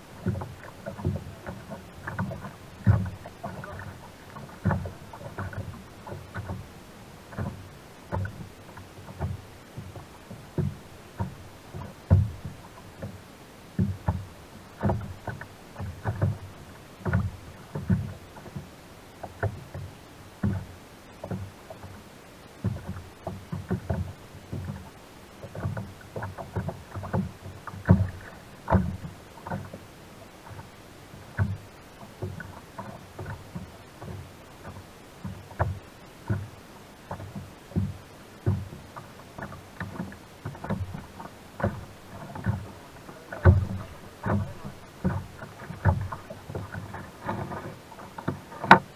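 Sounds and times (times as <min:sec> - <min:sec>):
small waves slapping a kayak hull: 0:00.0 - 0:48.9.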